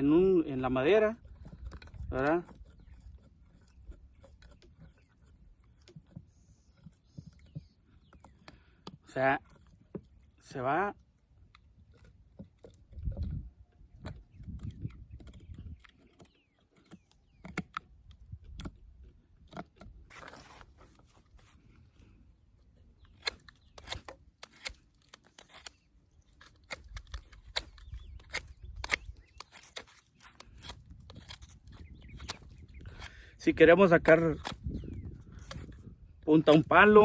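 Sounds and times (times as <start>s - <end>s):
knife carving wood: 0.0s - 33.4s, 34.0s - 37.0s.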